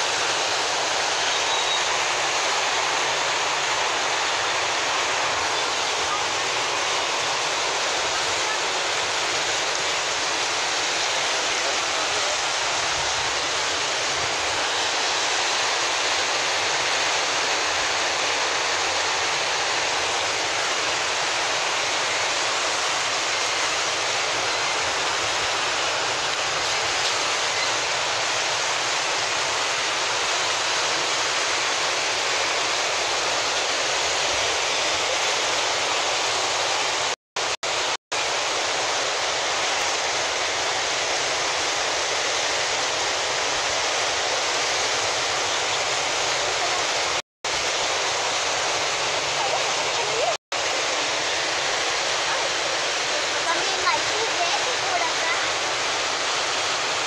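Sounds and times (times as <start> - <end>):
floodwater rushing down street: 0.0 - 57.0.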